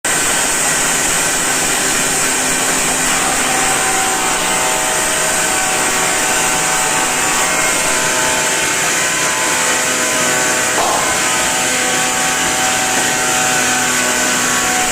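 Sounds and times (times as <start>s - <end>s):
power tool motor whine: 0.1s - 14.9s.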